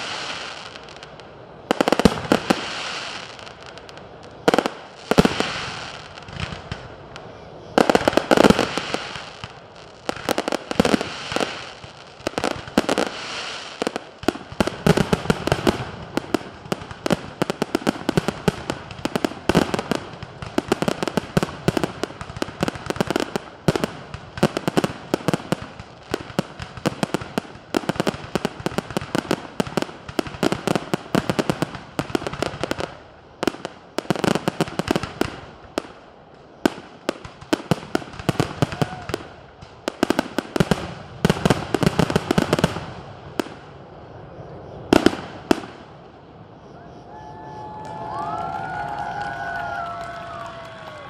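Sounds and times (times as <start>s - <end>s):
fireworks bangs and crackling: 0.0s - 46.6s, 47.6s - 51.0s.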